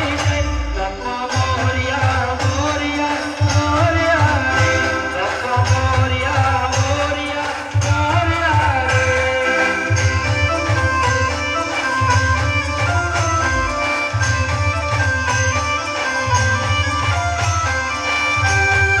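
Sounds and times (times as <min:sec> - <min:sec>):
heavy drum beats: 0:00.0 - 0:15.6.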